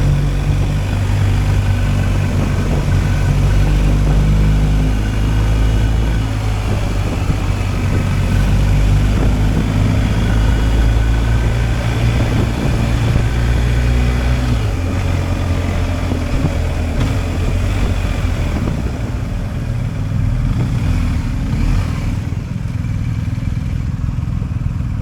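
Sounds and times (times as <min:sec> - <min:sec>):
motorcycle engine running: 0:00.0 - 0:25.0
wind: 0:00.0 - 0:25.0.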